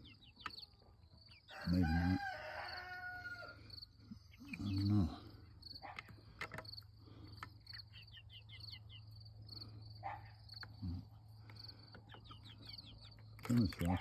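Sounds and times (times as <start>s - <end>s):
chickens clucking: 0.0s - 14.0s
insects chirping: 0.0s - 14.0s.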